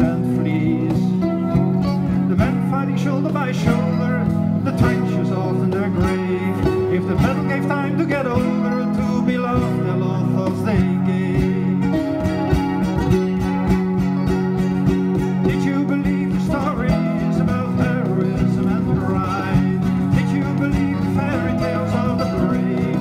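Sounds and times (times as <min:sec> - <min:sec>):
cajon beat: 0:00.0 - 0:23.0
guitar plucked: 0:00.0 - 0:23.0
kora plucked: 0:00.0 - 0:23.0.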